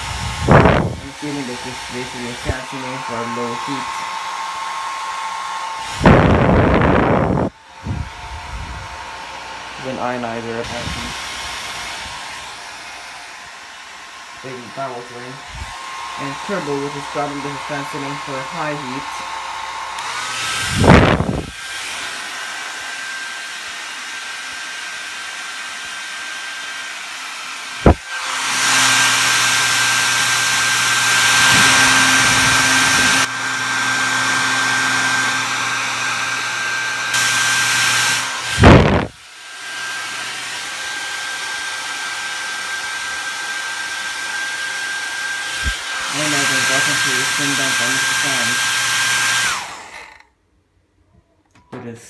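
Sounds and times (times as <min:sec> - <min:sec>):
hair dryer running: 0:00.0 - 0:50.3.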